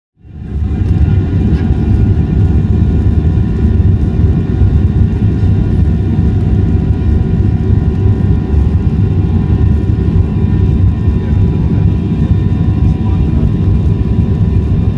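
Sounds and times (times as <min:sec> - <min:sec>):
jet engines rumbling and whining: 0:00.2 - 0:14.9.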